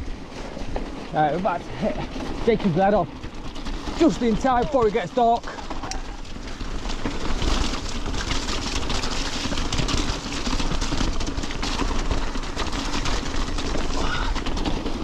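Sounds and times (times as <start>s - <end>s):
bike rattling and clattering: 0.0s - 15.0s
tyres rumbling on stone: 0.0s - 15.0s.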